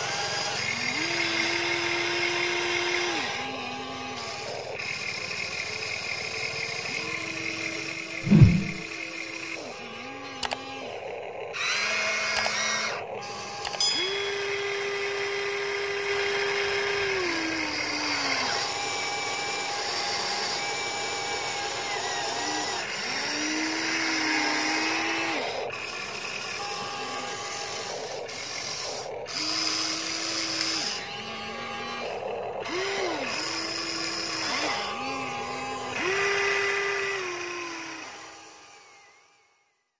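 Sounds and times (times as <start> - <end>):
toy excavator motors whining: 0.0 - 39.9.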